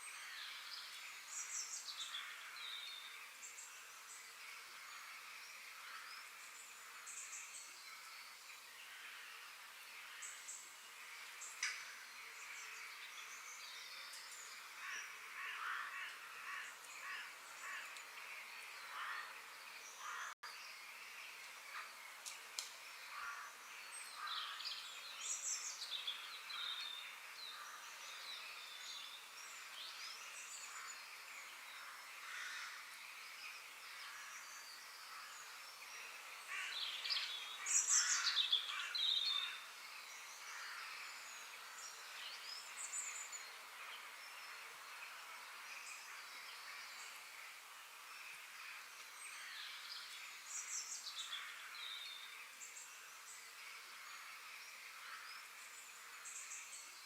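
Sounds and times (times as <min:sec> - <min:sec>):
faint steady background hiss: 0:00.0 - 0:57.0.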